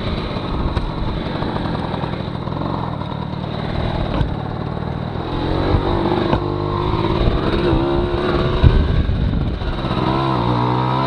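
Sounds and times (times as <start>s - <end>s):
moped engine running: 0.0s - 11.0s.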